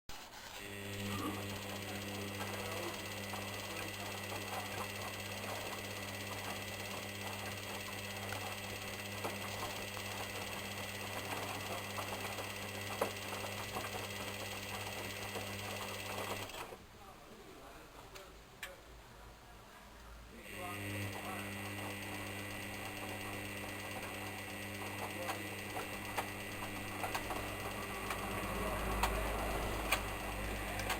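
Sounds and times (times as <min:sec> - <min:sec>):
washing machine running: 0:00.6 - 0:16.8, 0:20.4 - 0:30.9.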